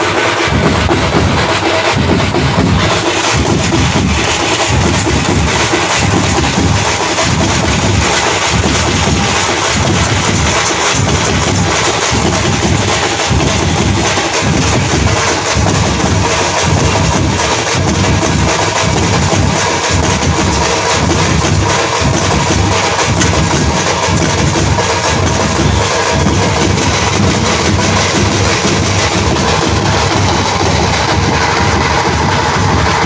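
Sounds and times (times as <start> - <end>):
loud drumming music: 0.0 - 33.0.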